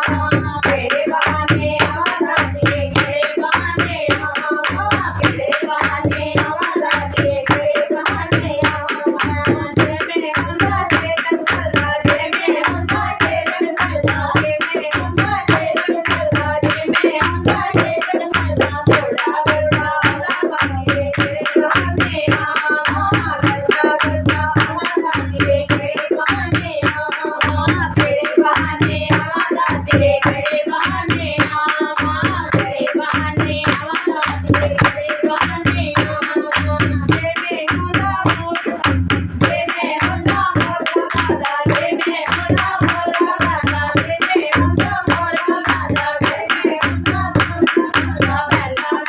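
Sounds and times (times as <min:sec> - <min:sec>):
fast rhythmic hand clapping: 0:00.0 - 0:49.0
hand drum beat: 0:00.0 - 0:49.0.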